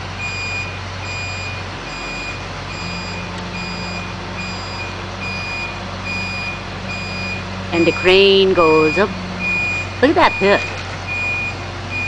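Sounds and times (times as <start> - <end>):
crane engine hum: 0.0 - 12.0
back-up alarm beeping: 0.2 - 12.0.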